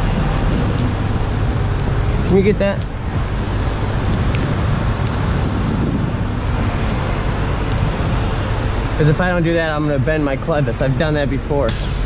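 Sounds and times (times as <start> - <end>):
truck diesel engine running: 0.0 - 12.0
wind noise: 0.0 - 12.0.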